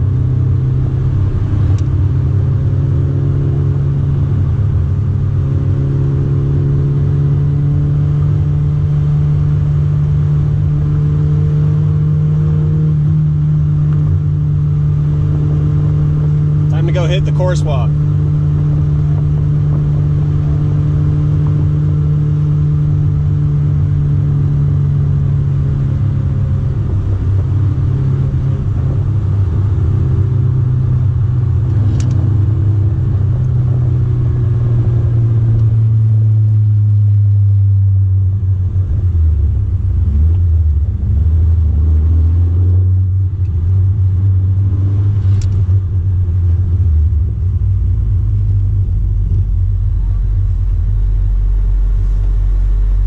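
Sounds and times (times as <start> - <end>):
car engine heard from cabin: 0.0 - 53.0.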